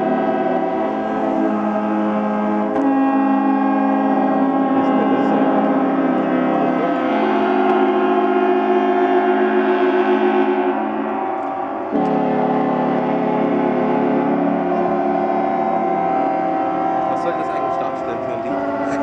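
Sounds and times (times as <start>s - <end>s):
deep ship horn: 0.0s - 19.0s
ship horns sounding together: 0.0s - 19.0s.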